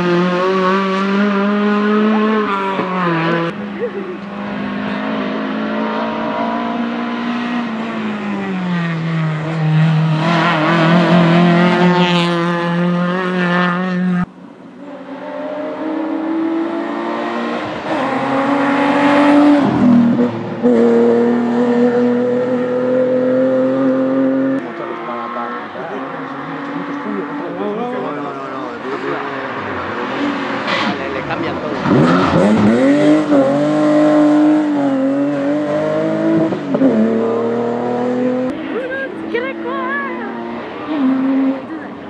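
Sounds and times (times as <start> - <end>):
racing car engine: 0.0 - 42.0.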